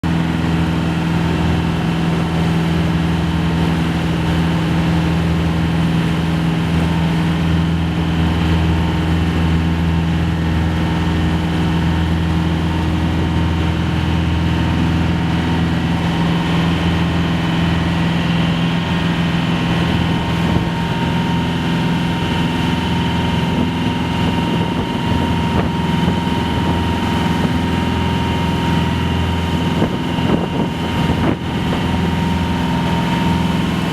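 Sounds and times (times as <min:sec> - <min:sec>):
boat engine humming: 0:00.0 - 0:33.9.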